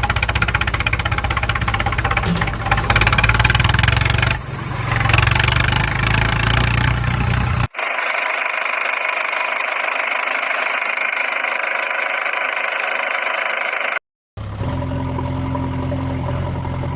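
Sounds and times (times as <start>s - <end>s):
engine running with fast pulsing: 0.0s - 16.9s.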